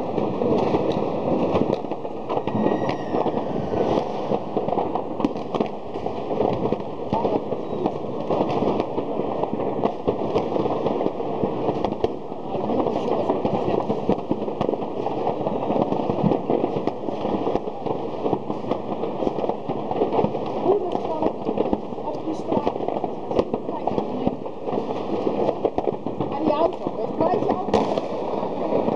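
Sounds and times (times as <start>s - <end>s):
fireworks popping and banging: 0.0s - 28.9s.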